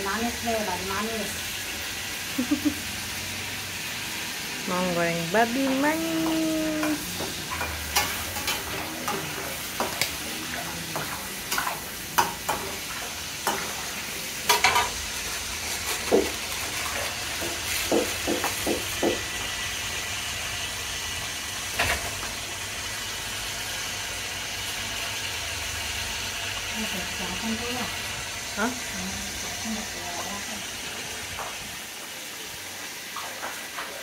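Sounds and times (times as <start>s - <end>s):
meat sizzling in hot oil: 0.0s - 34.0s.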